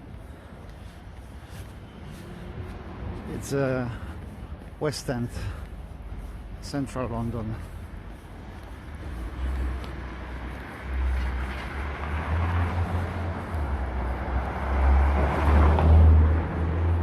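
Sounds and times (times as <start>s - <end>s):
low traffic rumble: 0.0s - 17.0s
vehicles passing: 0.0s - 17.0s.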